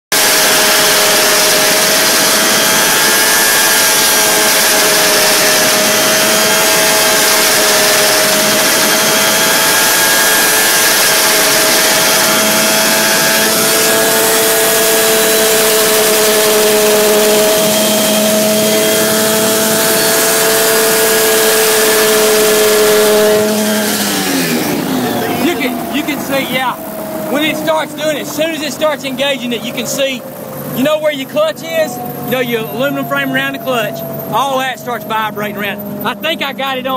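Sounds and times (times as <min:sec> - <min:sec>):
two-stroke engine whining: 0:00.0 - 0:36.9.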